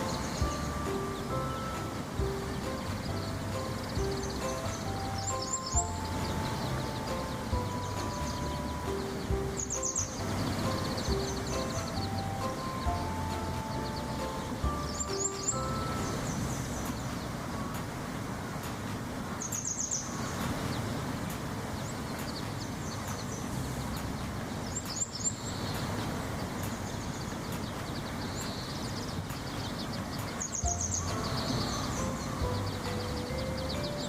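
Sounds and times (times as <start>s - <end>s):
birds chirping: 0.0s - 34.0s
steady background noise: 0.0s - 34.0s.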